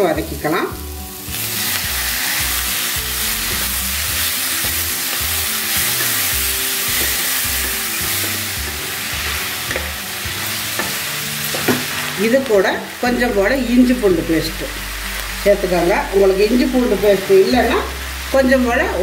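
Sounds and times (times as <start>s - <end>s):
tomatoes sizzling in a frying pan: 0.0s - 19.0s.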